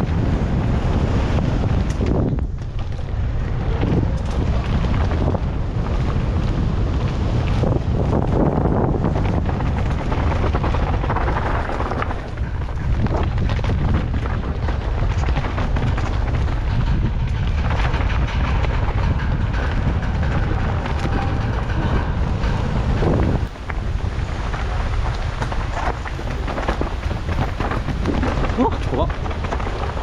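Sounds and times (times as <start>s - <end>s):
bike knocking and rattling: 0.0s - 30.0s
tyres rumbling on dirt: 0.0s - 30.0s
wind buffeting microphone: 0.0s - 30.0s.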